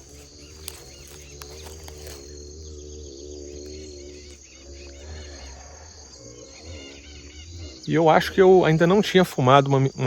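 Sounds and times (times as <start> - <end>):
faint wavering drone: 0.0 - 9.1
birds chirping: 0.0 - 10.0
insects chirping: 0.0 - 10.0.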